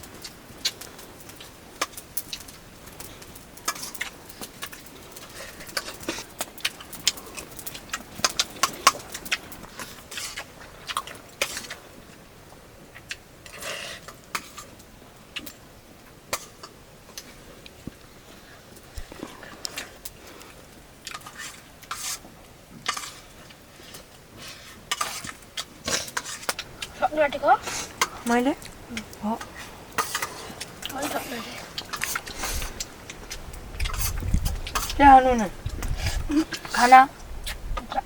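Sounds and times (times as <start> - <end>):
eating by hand from plates: 0.0 - 38.0.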